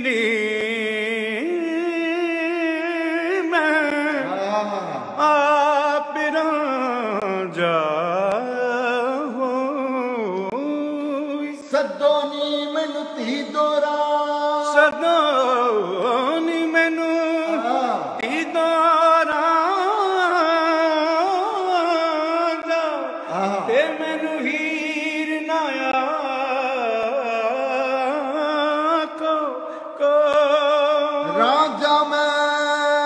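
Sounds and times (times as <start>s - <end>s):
man singing unaccompanied: 0.0s - 33.0s.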